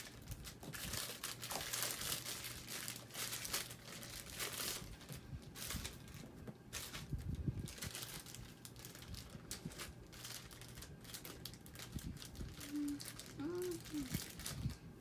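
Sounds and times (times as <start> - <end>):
crinkly crackling: 0.0 - 14.9.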